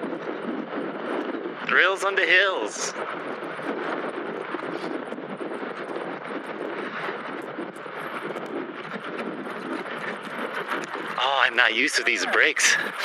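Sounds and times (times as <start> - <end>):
bike tyres rolling on dirt: 0.0 - 13.0
wind on microphone: 0.0 - 13.0
gravel ticks: 0.1 - 13.0.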